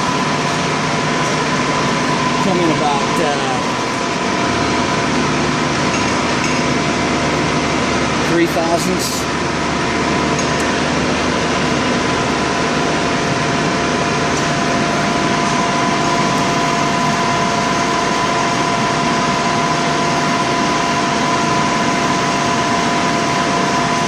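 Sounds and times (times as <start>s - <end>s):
metal lathe cutting: 0.0s - 24.0s.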